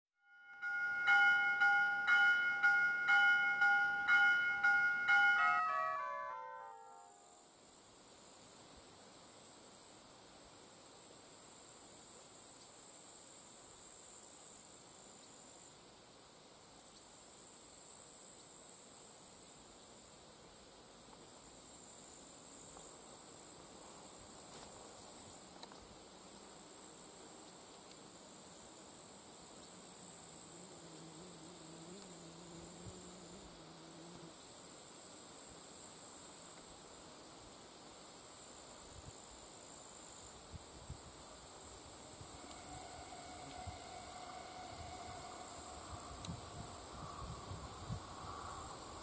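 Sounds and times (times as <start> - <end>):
insects chirring: 0.6 - 49.0.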